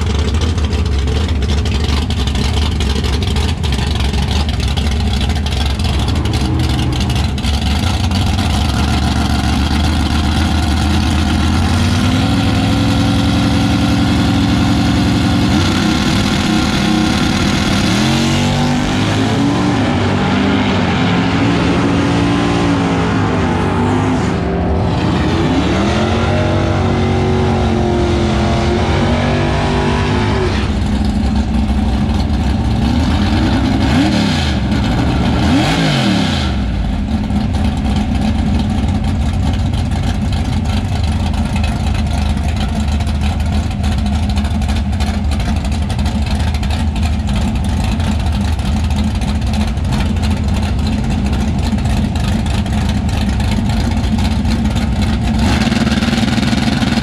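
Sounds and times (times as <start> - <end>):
drag racing car engine revving: 0.0 - 57.0.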